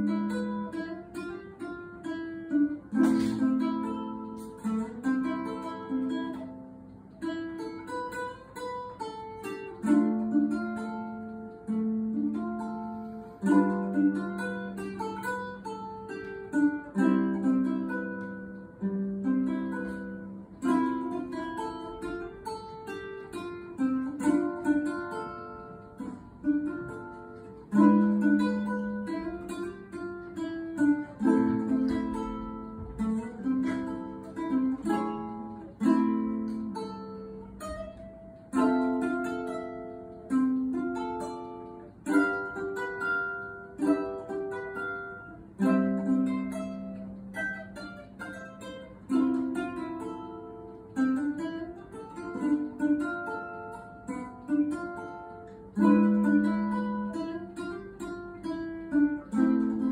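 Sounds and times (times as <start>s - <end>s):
fingerstyle ukulele melody: 0.0s - 59.9s.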